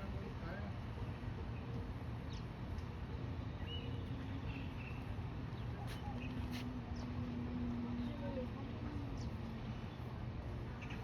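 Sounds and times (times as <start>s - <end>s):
faint distant voices: 0.0s - 11.0s.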